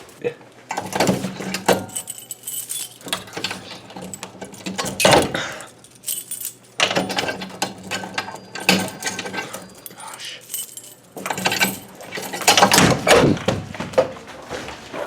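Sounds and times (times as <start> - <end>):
keys jangling: 0.7 - 13.4.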